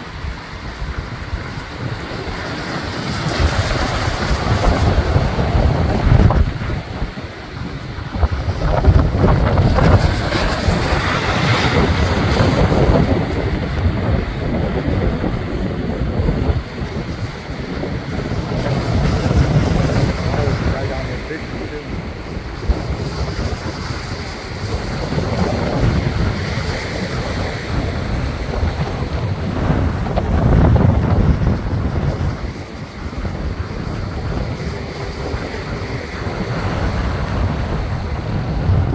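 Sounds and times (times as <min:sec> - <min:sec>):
surf breaking on rocks: 0:00.0 - 0:38.9
wind buffeting microphone: 0:00.0 - 0:38.9.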